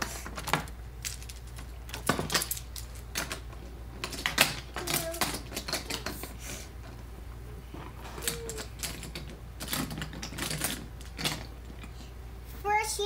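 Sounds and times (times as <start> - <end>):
wooden toy train clattering: 0.0 - 7.1, 7.8 - 12.0.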